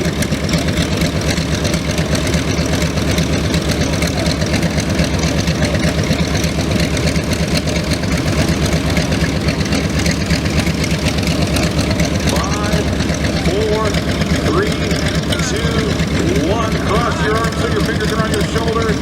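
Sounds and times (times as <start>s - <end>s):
aircraft radial engine idling: 0.0s - 19.0s.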